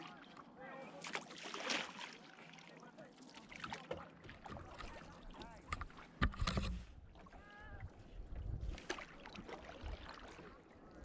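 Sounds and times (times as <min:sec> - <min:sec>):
water moving and paddling: 0:00.0 - 0:11.0.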